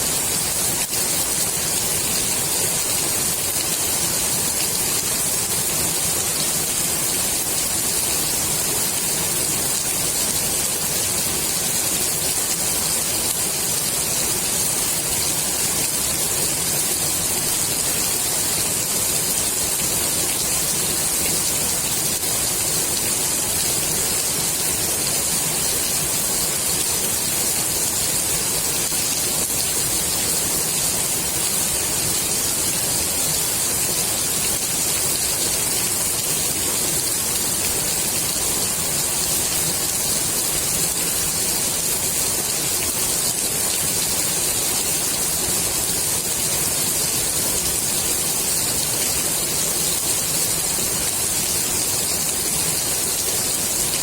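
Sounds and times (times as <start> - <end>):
rain falling on pool water: 0.0 - 54.0.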